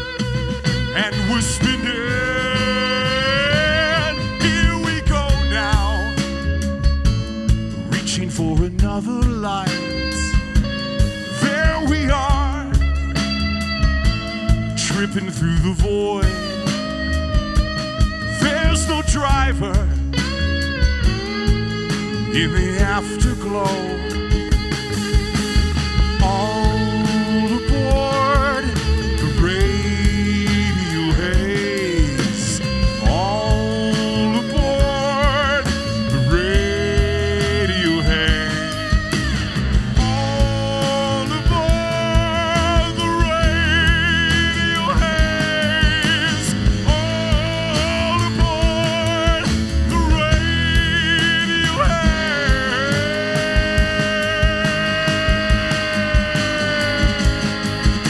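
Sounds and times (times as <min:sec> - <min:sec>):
bending lead guitar line: 0:00.0 - 0:58.0
rock band playing: 0:00.0 - 0:58.0.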